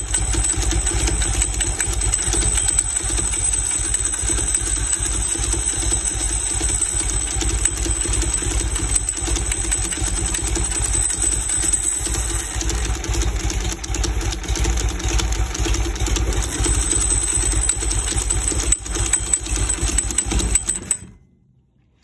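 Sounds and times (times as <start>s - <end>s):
motorcycle engine idling: 0.0s - 21.1s.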